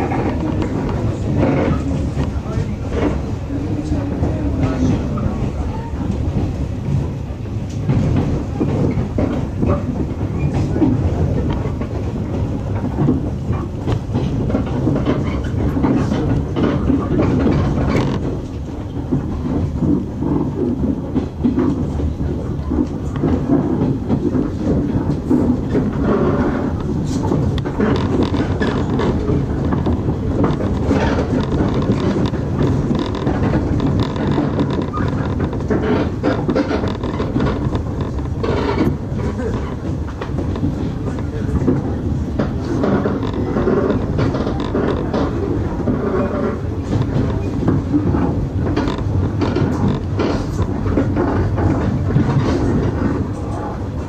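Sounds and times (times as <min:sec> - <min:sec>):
train rumble inside carriage: 0:00.0 - 0:54.0
wheels clattering over rail joints: 0:00.0 - 0:54.0.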